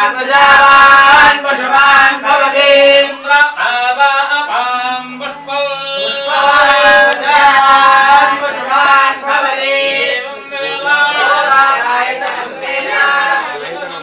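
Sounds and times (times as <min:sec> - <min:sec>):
hymn chanting: 0:00.0 - 0:14.0.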